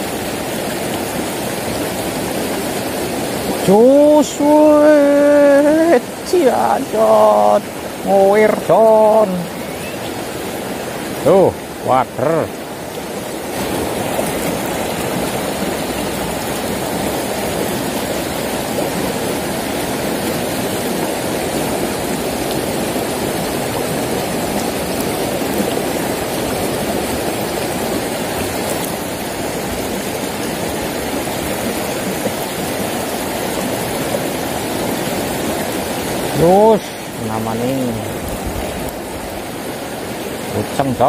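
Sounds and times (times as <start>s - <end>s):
river rushing over stones: 0.0s - 41.0s.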